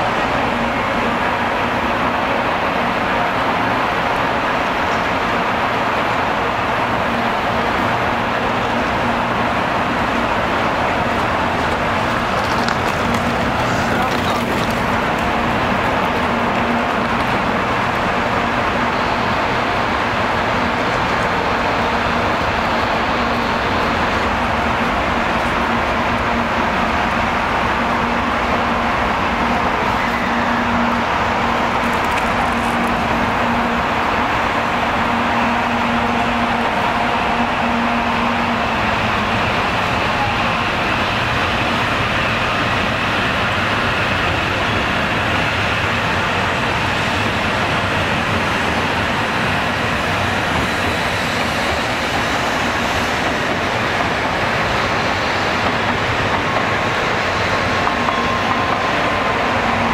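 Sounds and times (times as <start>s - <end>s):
high-speed train rushing rumble: 0.0s - 59.9s
vehicle noise: 0.0s - 59.9s.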